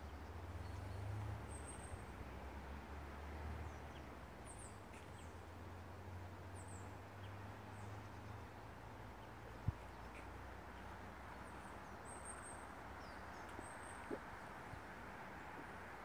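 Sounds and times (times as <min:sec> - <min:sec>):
songbird chirps: 0:00.0 - 0:16.0.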